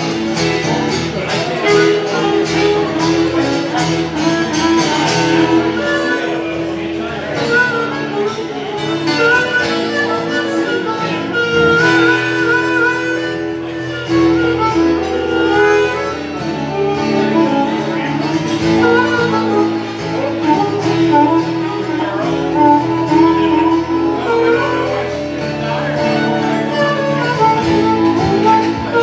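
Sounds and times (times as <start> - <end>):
acoustic guitar strumming: 0.0 - 29.0
harmonica long held notes: 0.0 - 29.0.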